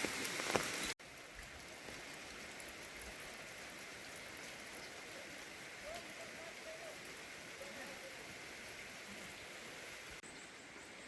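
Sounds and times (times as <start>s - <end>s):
rain hissing: 0.0s - 11.0s
sharp water drips: 0.0s - 11.0s.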